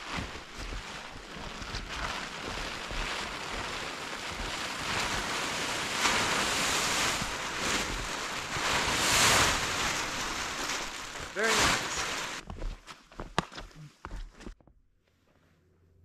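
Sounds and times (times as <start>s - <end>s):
plastic tarp rustling and crinkling: 0.0s - 13.6s.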